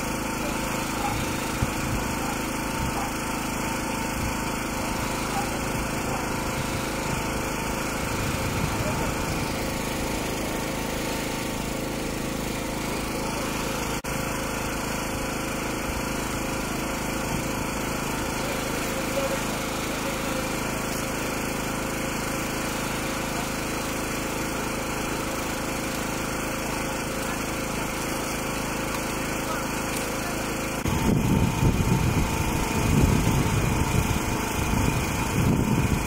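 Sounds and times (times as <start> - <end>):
demolition hammer chiselling concrete: 0.0 - 36.0.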